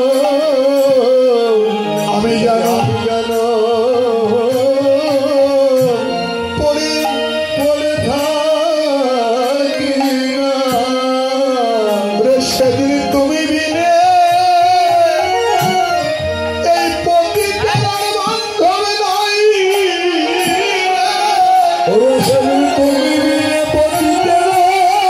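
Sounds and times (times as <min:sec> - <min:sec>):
man singing into microphone: 0:00.0 - 0:25.0.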